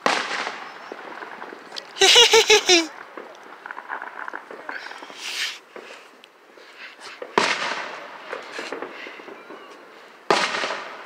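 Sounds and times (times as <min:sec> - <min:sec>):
firework shells bursting with echo: 0:00.0 - 0:06.0, 0:07.2 - 0:11.0.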